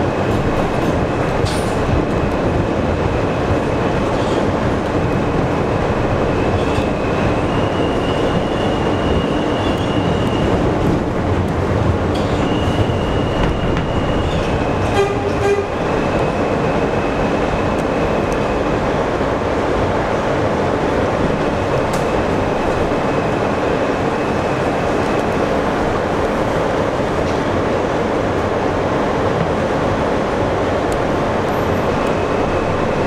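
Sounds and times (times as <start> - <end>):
subway train wheels rumbling: 0.0 - 33.0.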